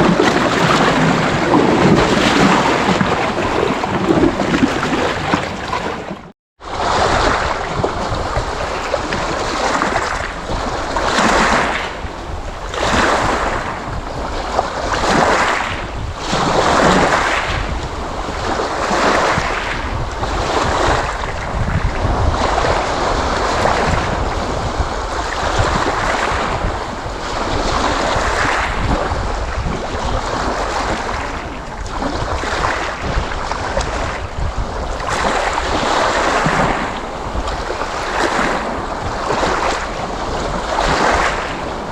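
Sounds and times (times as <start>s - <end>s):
sea waves washing in: 0.0s - 41.9s.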